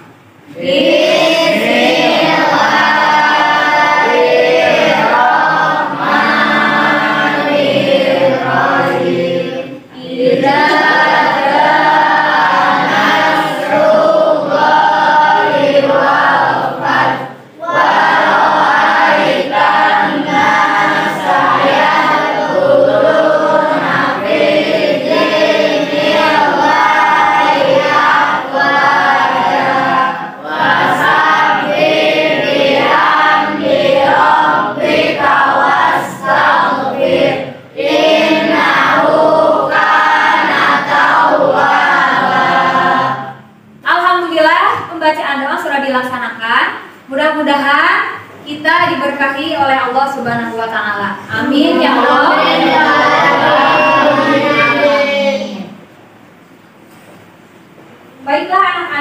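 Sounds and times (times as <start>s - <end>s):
children chanting a prayer: 0.5s - 43.6s, 51.2s - 55.9s.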